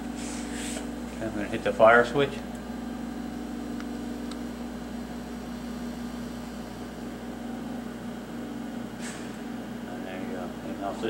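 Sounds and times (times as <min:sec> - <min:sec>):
power supply electrical hum: 0:00.0 - 0:11.0.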